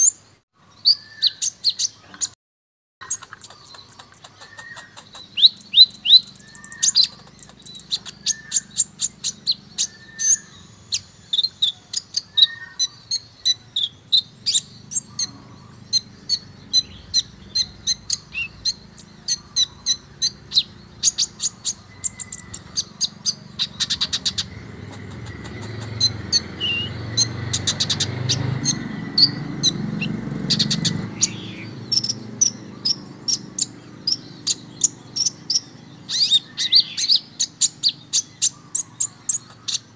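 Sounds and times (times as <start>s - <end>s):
bird singing sharp chirps and trills: 0.0s - 2.4s, 3.0s - 39.9s.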